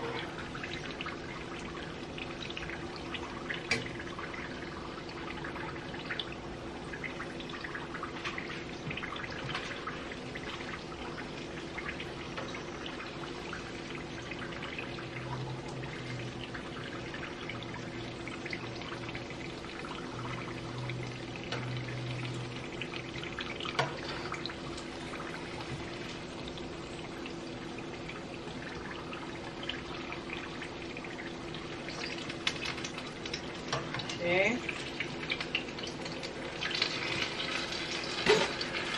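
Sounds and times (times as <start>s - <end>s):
faint steady hum: 0.0s - 38.9s
food deep-frying in oil: 0.0s - 38.9s.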